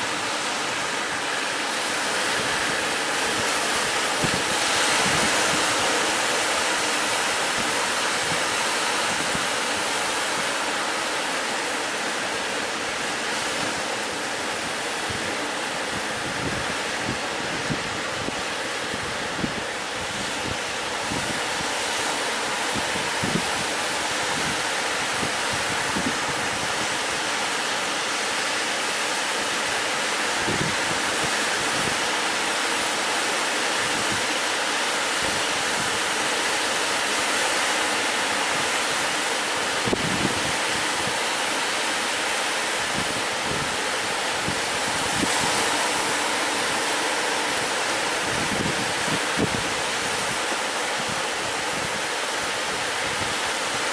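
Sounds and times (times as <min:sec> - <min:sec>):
wind buffeting microphone: 0:00.0 - 0:37.2, 0:37.8 - 0:53.9
surf breaking on beach: 0:00.0 - 0:53.9.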